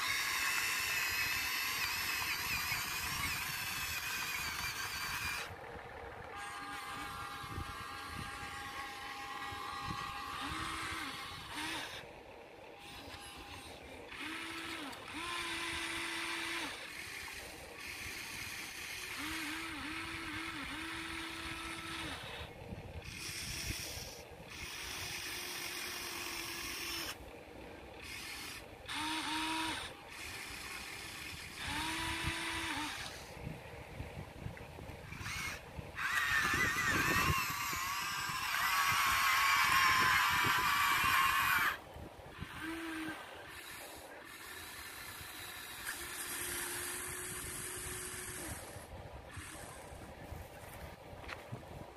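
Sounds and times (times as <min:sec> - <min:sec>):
model excavator motors whirring: 0:00.0 - 0:51.9.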